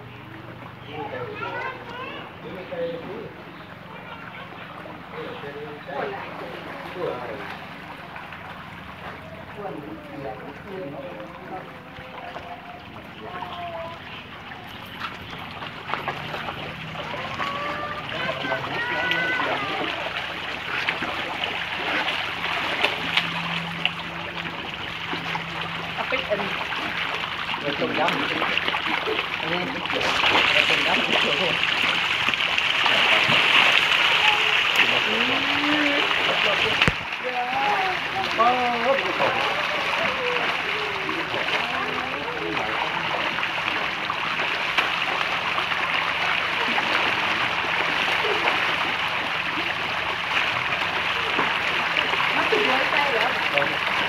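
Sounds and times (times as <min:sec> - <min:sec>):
fish thrashing and splashing: 0:03.4 - 0:54.0.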